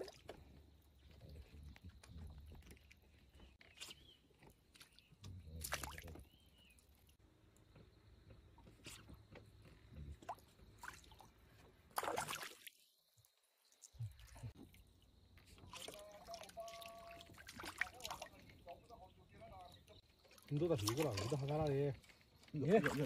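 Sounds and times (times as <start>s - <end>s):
small water splashes: 0.0s - 7.2s, 10.2s - 23.0s
water dripping and trickling: 0.0s - 23.0s.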